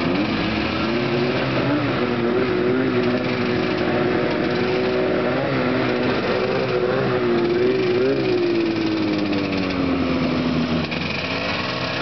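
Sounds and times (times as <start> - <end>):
snowmobile engine idling: 0.0 - 12.0.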